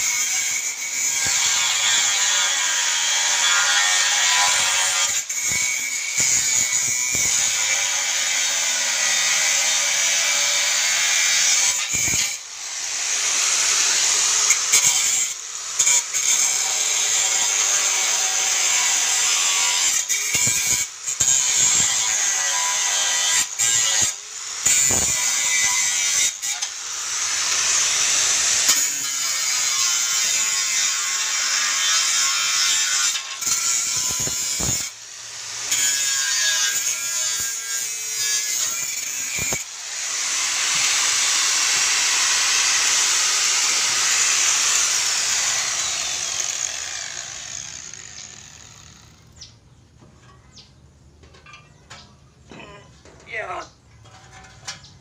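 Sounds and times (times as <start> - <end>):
angle grinder cutting steel: 0.0 - 49.5, 54.0 - 54.9.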